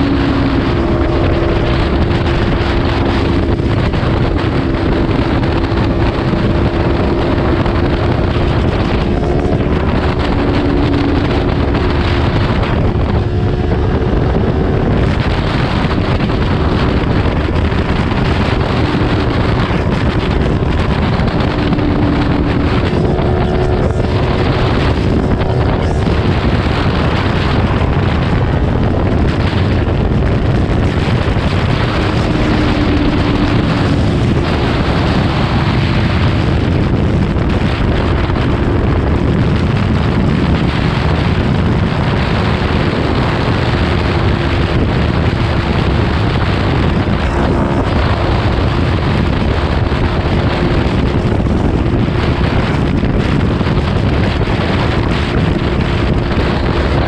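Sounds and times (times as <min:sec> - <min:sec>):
motorcycle engine cruising: 0:00.0 - 0:57.0
wind buffeting microphone: 0:00.0 - 0:57.0.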